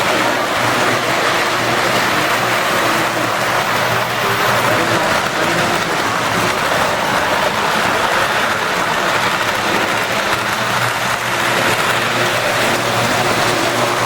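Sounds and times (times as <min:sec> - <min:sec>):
model train rumbling on track: 0:00.0 - 0:14.0.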